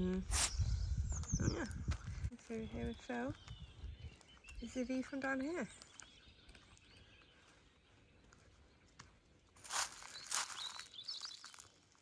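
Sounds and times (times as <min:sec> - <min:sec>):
faint bird chirps: 0:00.4 - 0:09.0, 0:09.6 - 0:11.7
footsteps crunching on gravel: 0:01.9 - 0:12.0.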